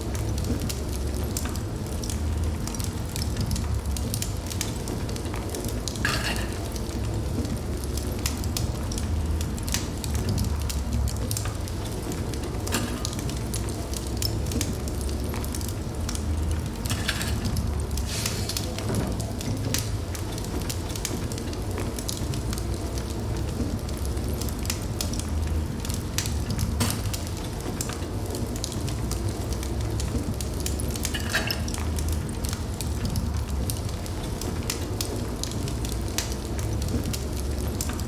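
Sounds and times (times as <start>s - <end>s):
fire crackling and popping: 0.0s - 38.0s
low rush of flames: 0.0s - 38.0s.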